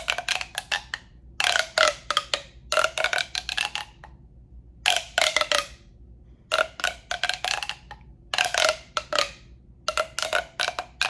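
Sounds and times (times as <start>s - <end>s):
tapping on a hollow tube: 0.0s - 4.2s, 4.9s - 5.8s, 6.5s - 11.0s.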